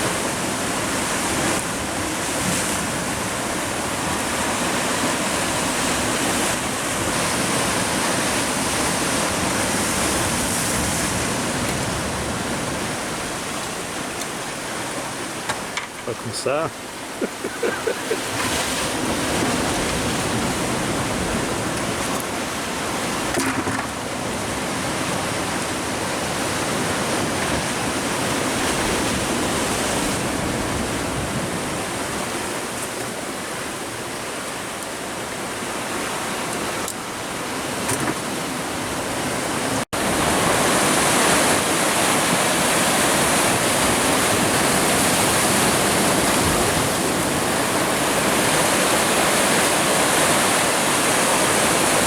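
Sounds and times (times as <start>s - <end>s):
surf washing against rocks: 0.0s - 52.0s.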